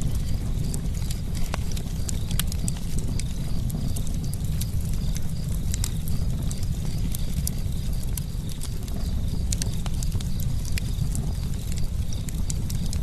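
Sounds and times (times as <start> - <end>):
burning wood crackling and popping: 0.0 - 13.0
low rumble of flames: 0.0 - 13.0.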